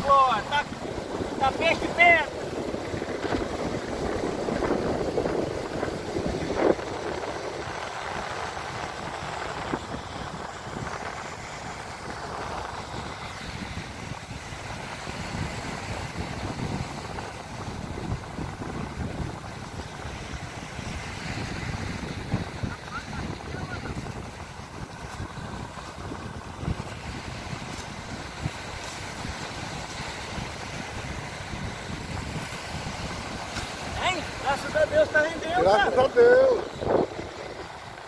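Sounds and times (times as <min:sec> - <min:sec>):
sea water washing: 0:00.0 - 0:38.0
wind buffeting microphone: 0:00.0 - 0:38.0.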